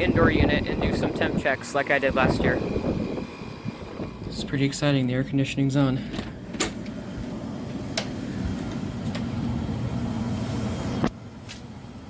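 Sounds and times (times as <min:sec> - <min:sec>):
air conditioner running: 0:00.0 - 0:12.0.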